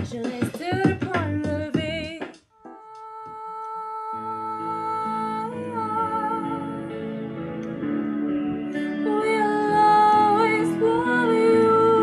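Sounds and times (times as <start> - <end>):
woman singing with vibrato: 0.0 - 7.1, 8.8 - 12.0.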